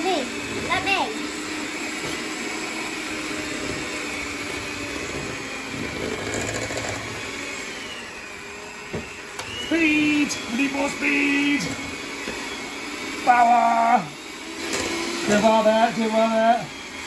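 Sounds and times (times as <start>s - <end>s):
electric hand mixer whirring: 0.0s - 17.0s.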